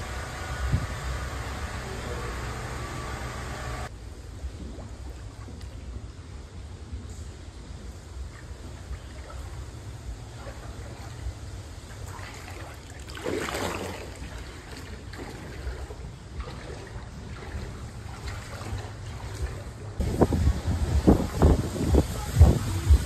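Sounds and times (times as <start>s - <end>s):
water sloshing from wading: 0.0s - 22.8s
steady low rumble: 0.0s - 23.0s.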